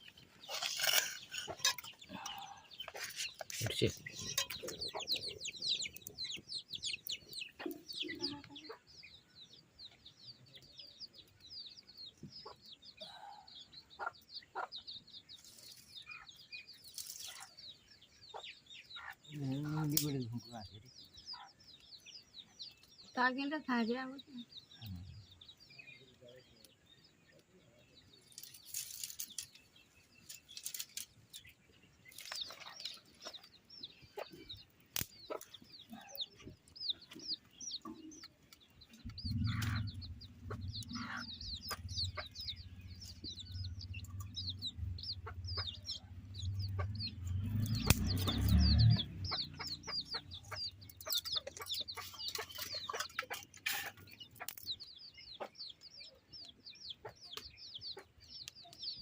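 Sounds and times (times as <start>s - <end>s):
chickens clucking: 0.0s - 23.0s, 24.2s - 59.0s.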